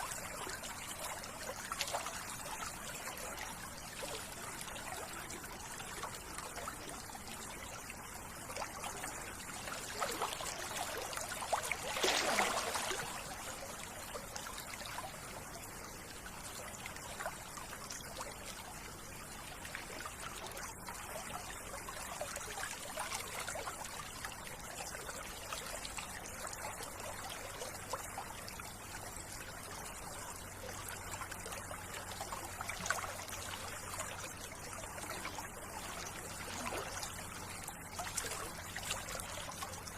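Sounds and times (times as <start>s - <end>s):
water trickling and flowing: 0.0s - 39.9s.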